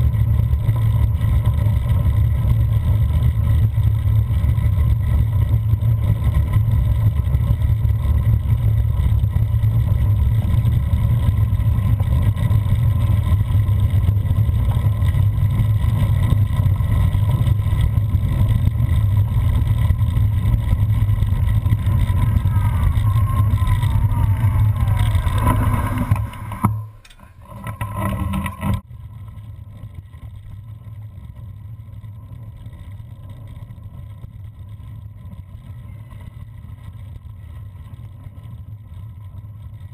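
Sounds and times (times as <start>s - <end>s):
wind buffeting and tyre rumble: 0.0s - 39.9s.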